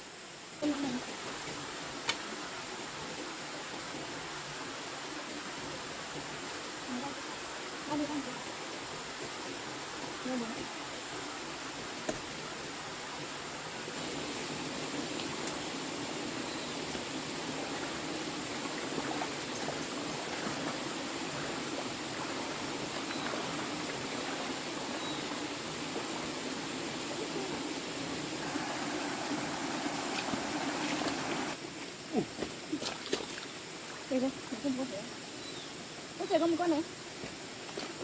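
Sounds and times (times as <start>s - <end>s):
running water rushing: 0.4s - 38.0s.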